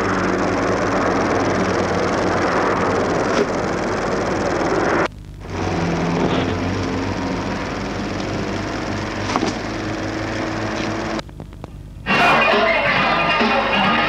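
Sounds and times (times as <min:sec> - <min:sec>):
mechanical drone with low hum: 0:00.0 - 0:14.0.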